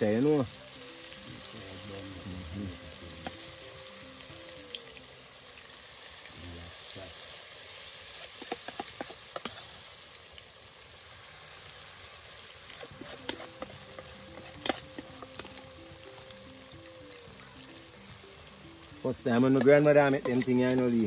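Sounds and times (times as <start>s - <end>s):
fritters sizzling in hot oil: 0.0s - 21.0s.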